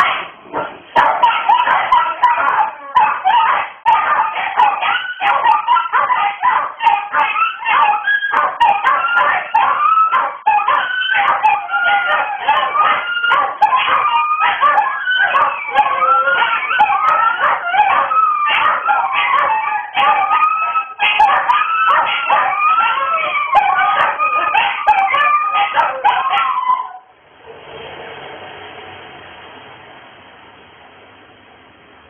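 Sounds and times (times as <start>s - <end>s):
dog yips: 1.0s - 27.1s
small dogs howling: 1.0s - 27.1s.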